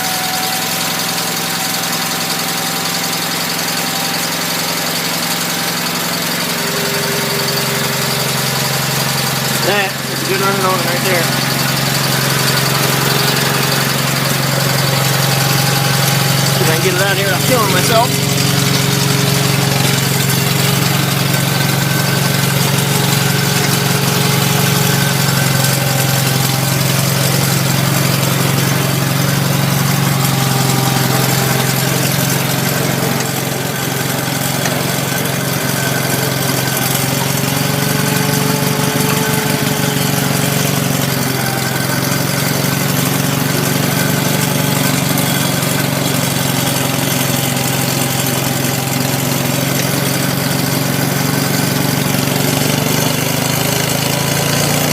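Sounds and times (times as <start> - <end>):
garden tractor engine running: 0.0 - 54.9.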